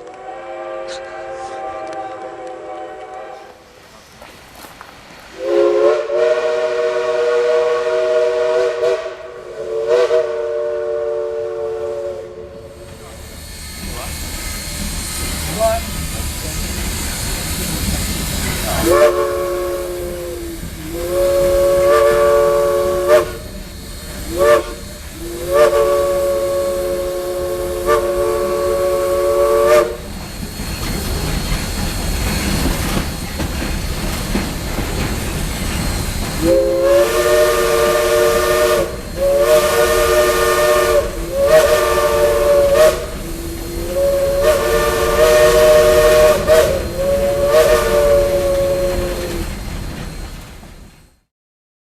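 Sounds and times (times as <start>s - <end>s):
steam locomotive chime whistle: 0.0s - 3.6s, 5.3s - 16.0s, 18.4s - 34.0s, 34.9s - 51.1s
steam hiss and rumble: 0.0s - 51.3s.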